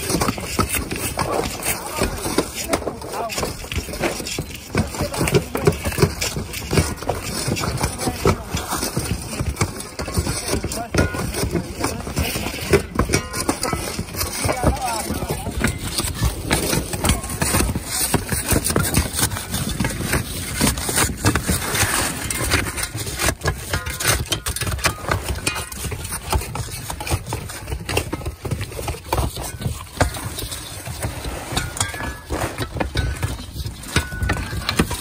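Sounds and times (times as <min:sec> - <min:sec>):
shovels scraping roof shingles: 0:00.0 - 0:35.0.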